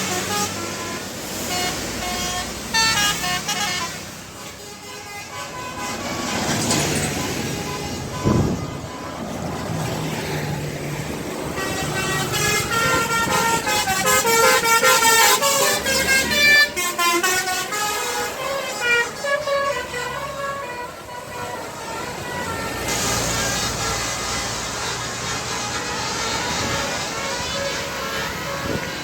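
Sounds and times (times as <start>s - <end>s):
bus horn playing melody: 0.0s - 29.0s
street noise: 0.0s - 29.0s.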